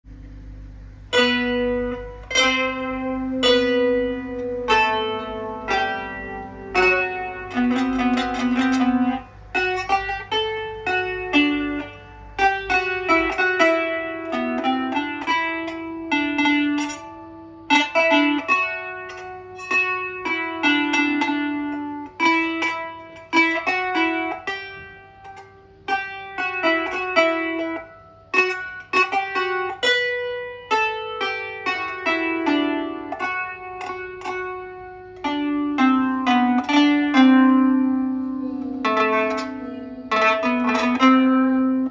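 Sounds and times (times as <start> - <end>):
plucked zither melody: 1.1 - 41.9.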